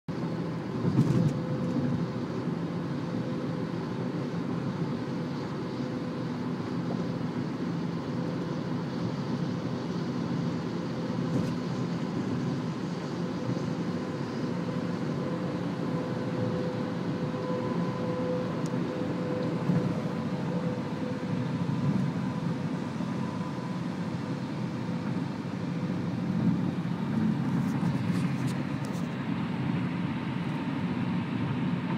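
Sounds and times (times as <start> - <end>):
car road and engine noise: 0.1 - 31.9
constant hum: 0.1 - 31.9.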